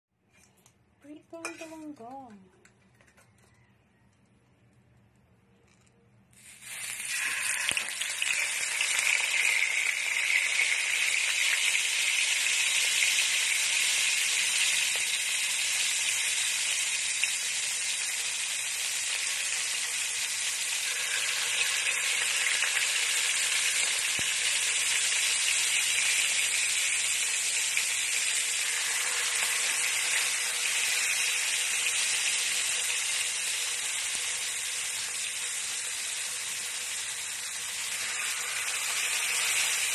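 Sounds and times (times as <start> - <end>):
fish frying in hot oil: 6.4 - 39.9.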